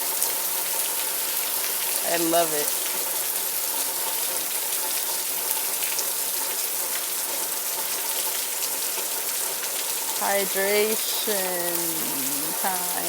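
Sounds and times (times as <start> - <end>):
rain pouring: 0.0 - 13.0.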